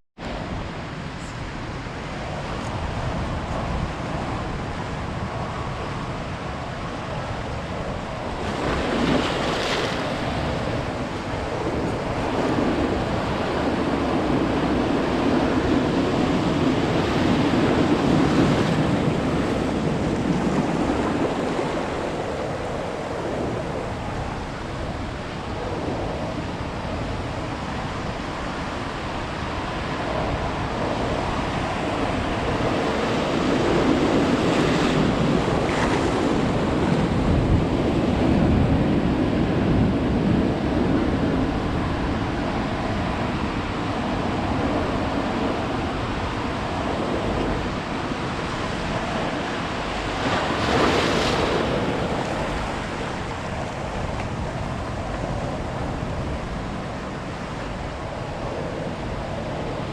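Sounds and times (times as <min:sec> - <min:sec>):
ocean surf breaking on beach: 0:00.2 - 0:59.9
wind rumbling on microphone: 0:00.2 - 0:59.9.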